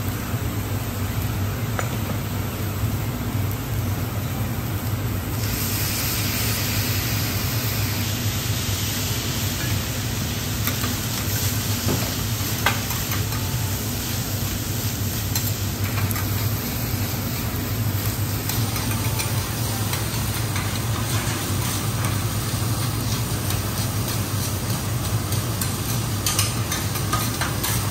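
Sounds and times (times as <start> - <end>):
rice sizzling on a griddle: 0.0 - 27.9.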